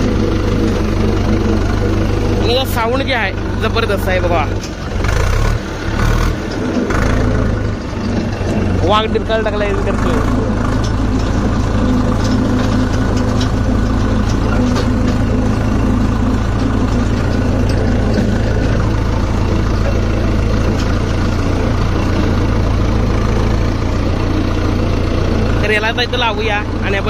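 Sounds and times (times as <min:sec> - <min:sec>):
light rattles: 0:00.0 - 0:27.0
tractor diesel engine running: 0:00.0 - 0:27.0.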